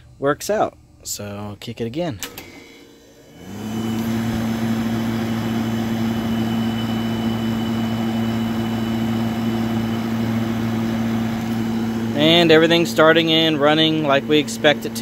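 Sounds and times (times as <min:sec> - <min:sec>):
compressor hum: 0:00.0 - 0:15.0.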